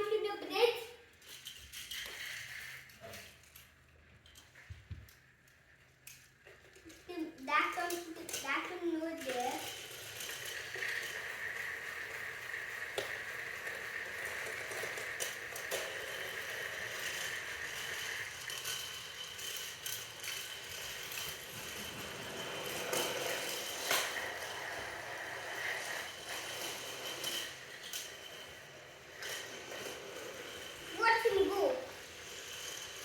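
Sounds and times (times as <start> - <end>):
toy train motor whirring: 0.0 - 33.0.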